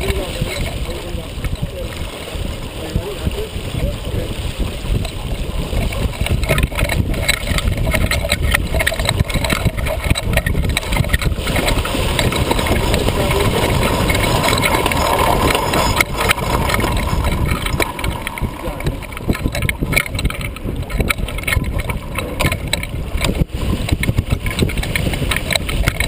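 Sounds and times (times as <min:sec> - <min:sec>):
water rushing past hull: 0:00.0 - 0:26.0
wind buffeting microphone: 0:00.0 - 0:26.0.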